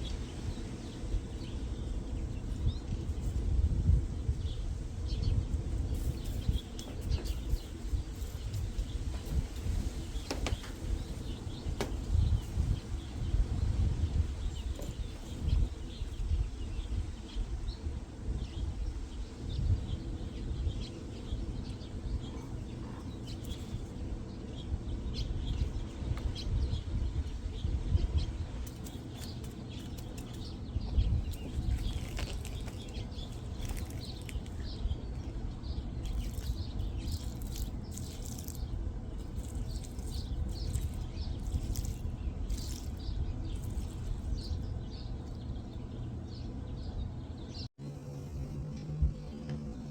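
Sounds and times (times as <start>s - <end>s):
low uneven rumble: 0.0s - 49.9s
small birds chirping: 0.0s - 49.9s.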